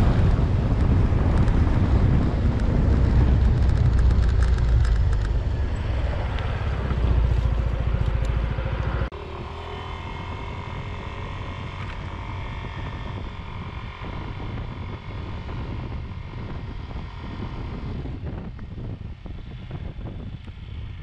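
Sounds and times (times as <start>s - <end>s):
scooter engine running: 0.0s - 21.0s
wind noise on microphone: 0.0s - 21.0s.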